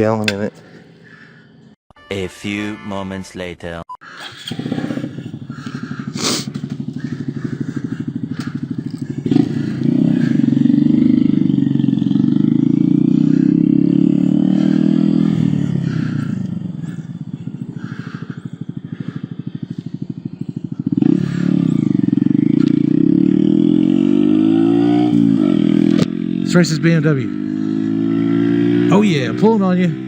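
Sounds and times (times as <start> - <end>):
motorcycle engine running: 4.3 - 30.0.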